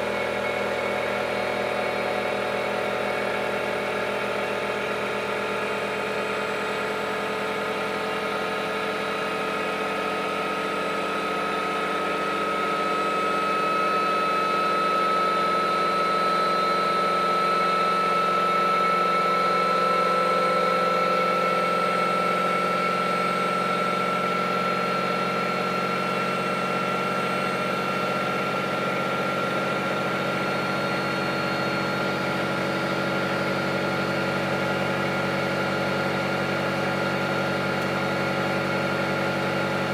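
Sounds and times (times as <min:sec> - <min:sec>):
washing machine humming and whining: 0:00.0 - 0:39.9.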